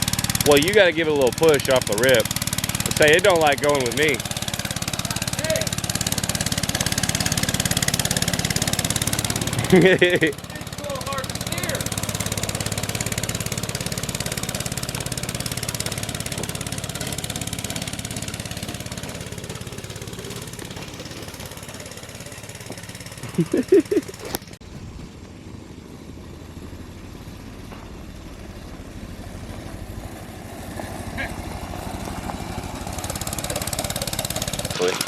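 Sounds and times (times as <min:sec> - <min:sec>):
minibike engine running: 0:00.0 - 0:35.0.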